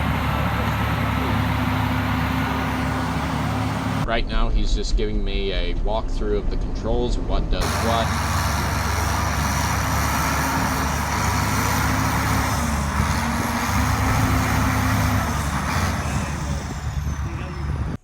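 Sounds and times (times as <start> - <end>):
bulldozer diesel engine running: 0.0 - 4.1, 7.6 - 18.0.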